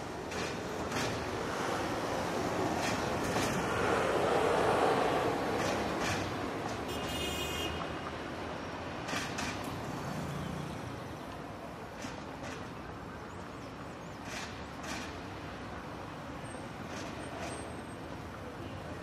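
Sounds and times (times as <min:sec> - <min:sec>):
passing vehicles: 0:00.0 - 0:19.0.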